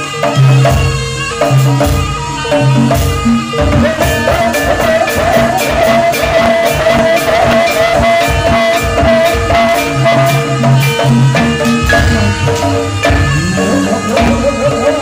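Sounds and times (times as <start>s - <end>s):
quick percussion strokes: 0.0s - 15.0s
wavering melodic line: 0.0s - 15.0s.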